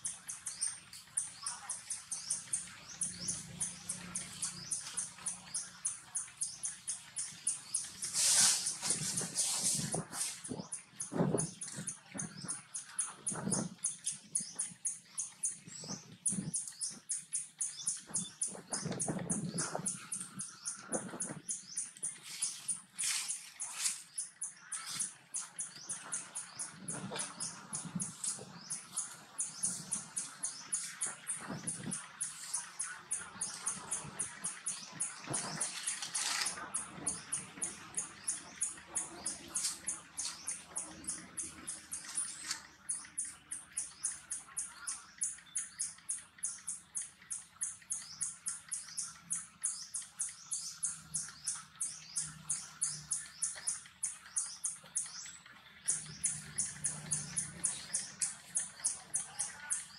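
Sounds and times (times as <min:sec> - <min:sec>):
fast high-pitched pulsing: 0:00.0 - 0:55.1.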